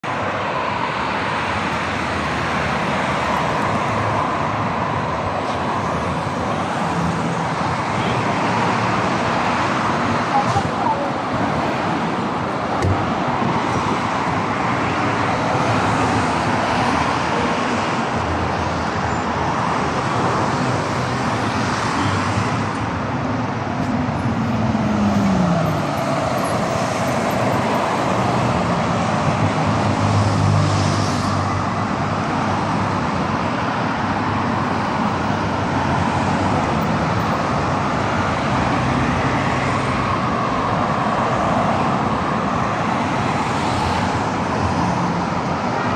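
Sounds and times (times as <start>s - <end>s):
road traffic: 0.0s - 45.9s.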